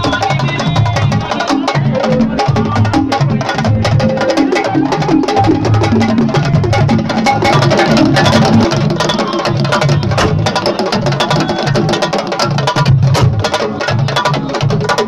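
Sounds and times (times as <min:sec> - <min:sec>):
sabar drums playing fast rhythm: 0:00.0 - 0:15.0.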